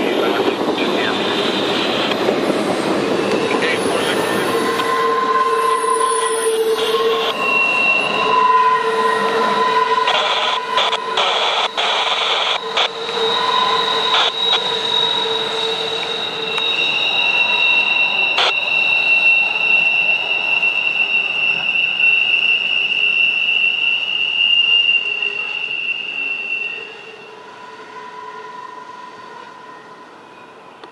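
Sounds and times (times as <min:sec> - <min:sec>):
freight car wheels squealing: 0:03.1 - 0:11.9, 0:12.5 - 0:30.5.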